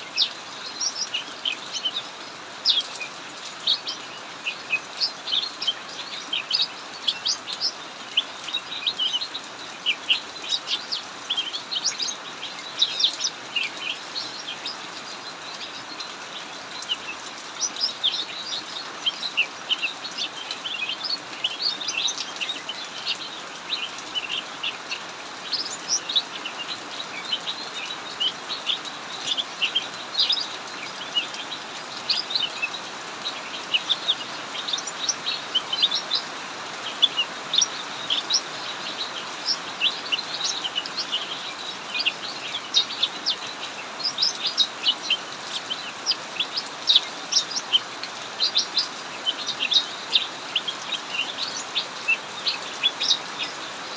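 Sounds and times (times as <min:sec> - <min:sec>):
heavy rain hissing: 0:00.0 - 0:53.9
songbirds chirping and singing: 0:00.0 - 0:53.9.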